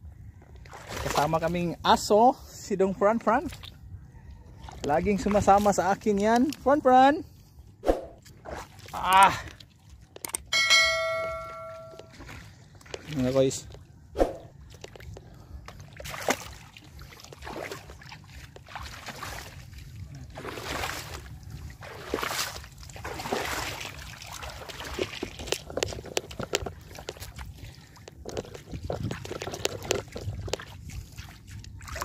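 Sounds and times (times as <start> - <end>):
seawater sloshing and splashing: 0.5 - 2.1, 3.2 - 6.8, 7.8 - 10.2, 11.3 - 32.0.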